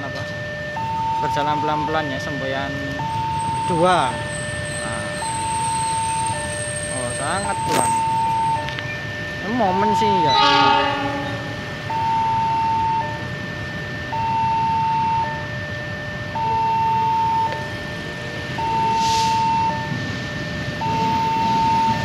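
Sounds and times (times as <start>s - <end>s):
diesel locomotive rumbling: 0.0s - 22.0s
two-tone level crossing alarm: 0.0s - 22.0s.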